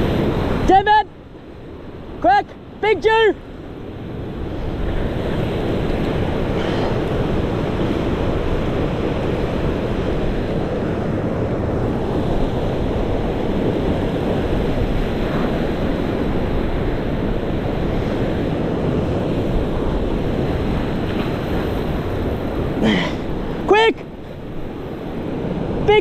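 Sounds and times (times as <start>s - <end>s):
surf washing over rocks: 0.0s - 26.0s
wind buffeting microphone: 3.4s - 26.0s.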